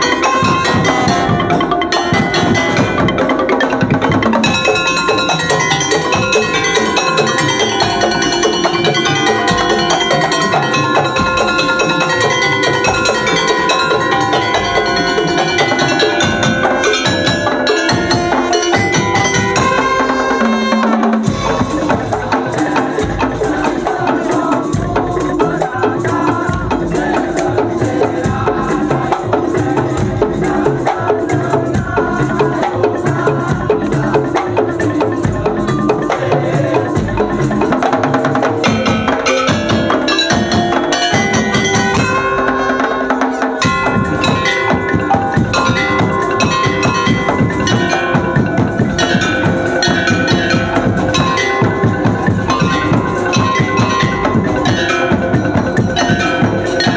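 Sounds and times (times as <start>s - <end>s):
bamboo slit drums and drums: 0.0s - 56.9s
tuned percussion melody: 0.0s - 56.9s.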